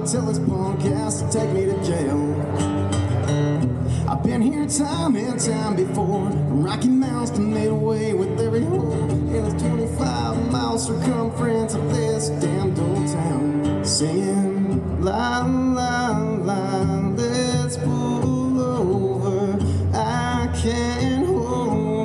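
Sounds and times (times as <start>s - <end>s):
live country band playing: 0.0s - 22.0s
person singing: 4.0s - 22.0s.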